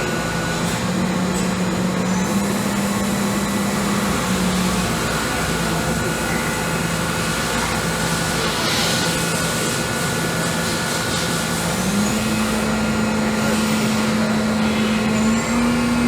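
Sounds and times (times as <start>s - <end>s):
machine noise: 0.0s - 16.0s
machining center whine: 0.0s - 16.0s.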